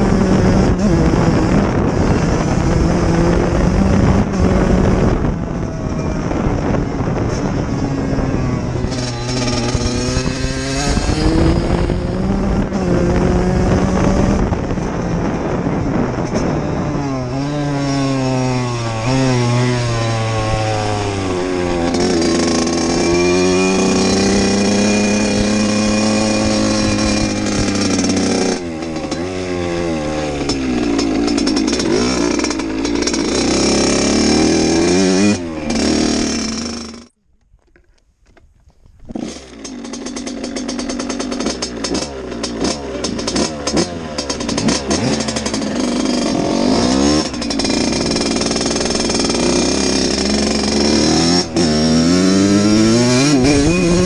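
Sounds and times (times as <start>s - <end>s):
dirt bike engine revving: 0.0s - 37.2s, 39.0s - 54.0s.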